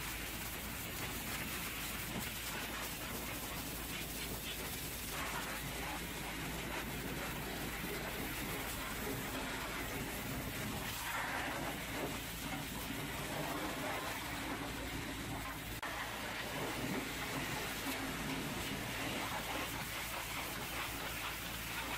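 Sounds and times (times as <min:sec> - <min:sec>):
pressure washer spraying metal: 0:00.0 - 0:21.9.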